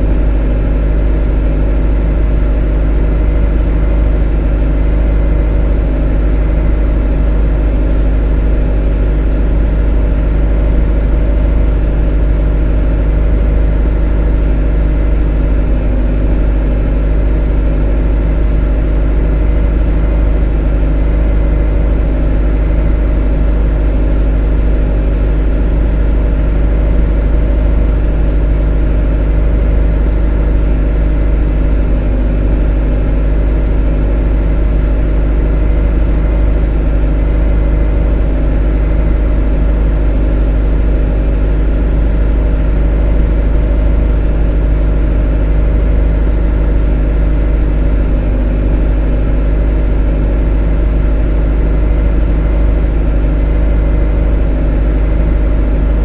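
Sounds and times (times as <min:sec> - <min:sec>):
motor droning: 0:00.0 - 0:56.0.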